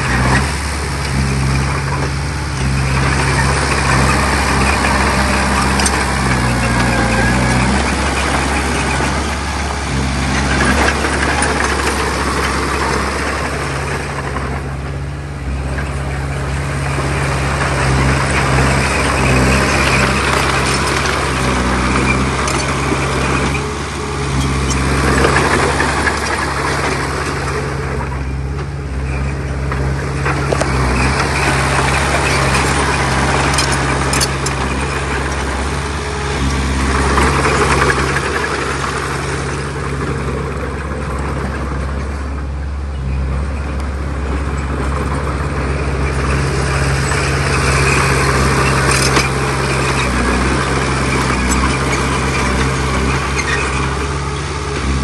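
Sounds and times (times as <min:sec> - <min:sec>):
heavy diesel engine humming: 0:00.0 - 0:55.0
machinery rattling: 0:00.0 - 0:55.0.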